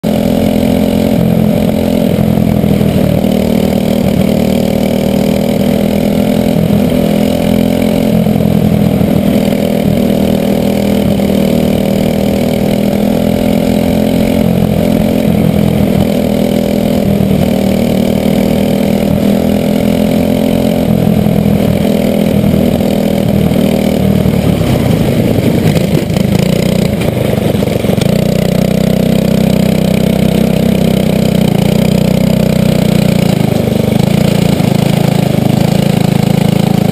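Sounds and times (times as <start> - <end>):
kart engine running hard: 0.0 - 36.9.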